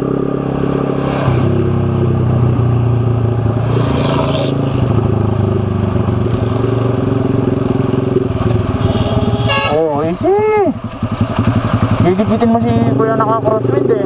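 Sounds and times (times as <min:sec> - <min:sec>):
motorcycle engine running: 0:00.0 - 0:03.7, 0:04.3 - 0:14.0.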